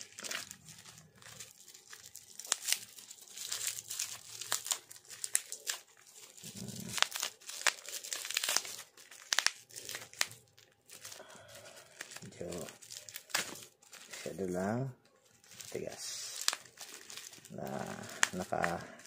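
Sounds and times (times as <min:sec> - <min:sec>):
bubble wrap and tape crackling: 0:00.0 - 0:19.0.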